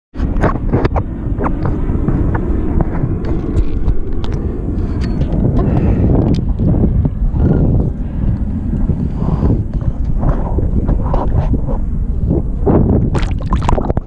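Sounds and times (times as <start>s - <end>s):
wind rumbling on microphone: 0.1s - 14.0s.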